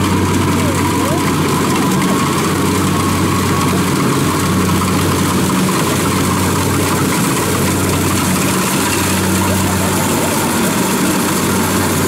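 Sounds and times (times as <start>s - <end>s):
combine harvester engine hum: 0.0s - 12.0s.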